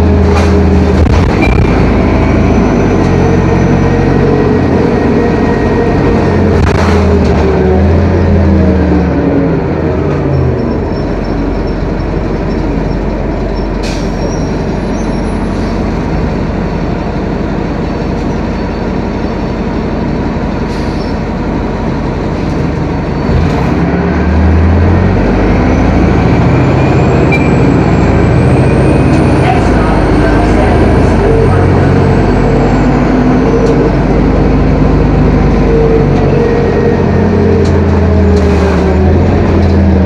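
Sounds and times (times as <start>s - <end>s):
bus diesel engine: 0.0s - 40.0s
engine whine: 0.0s - 40.0s
road and cabin noise: 0.0s - 40.0s.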